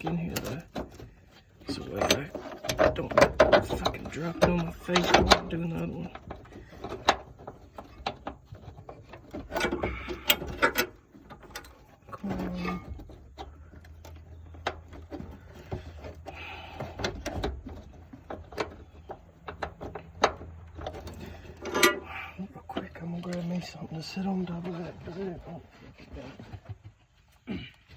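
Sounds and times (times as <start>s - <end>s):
hand tools clicking and knocking: 0.0s - 27.0s.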